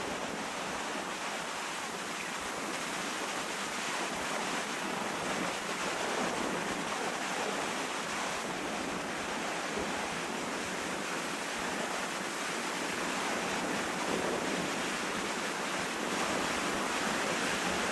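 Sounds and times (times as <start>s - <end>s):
waves breaking on shore: 0.0s - 17.9s
wind on microphone: 0.0s - 17.9s.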